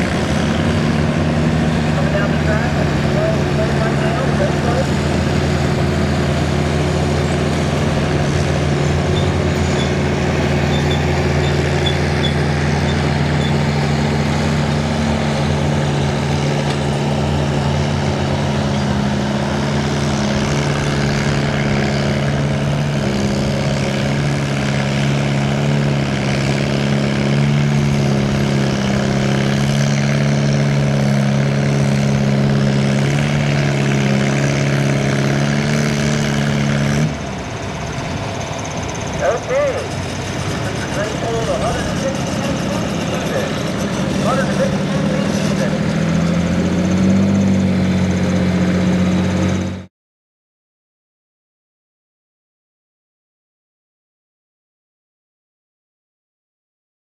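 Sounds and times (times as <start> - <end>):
tractor engine under load: 0.0 - 49.9.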